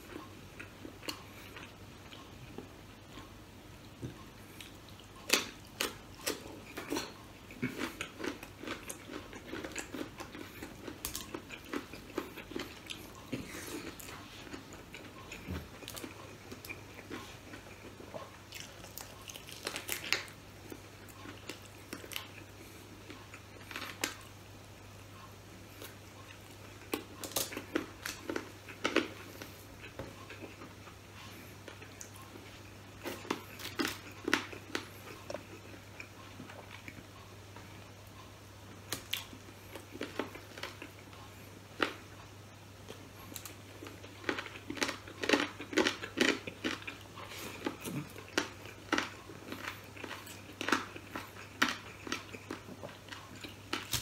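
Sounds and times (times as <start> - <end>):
chewing and crunching food: 0.0 - 24.4, 25.2 - 54.0
faint low hum: 0.0 - 54.0.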